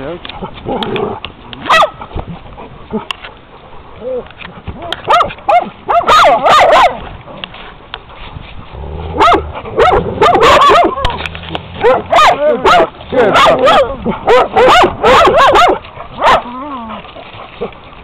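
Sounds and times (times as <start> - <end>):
dogs barking and yipping: 0.2 - 18.0.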